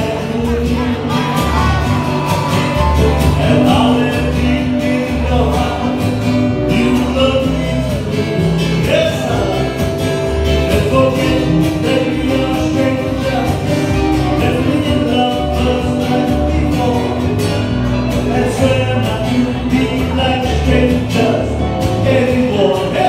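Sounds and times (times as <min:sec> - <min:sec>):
man singing into microphone: 0:00.0 - 0:02.2, 0:03.0 - 0:23.0
acoustic band playing: 0:00.0 - 0:23.0.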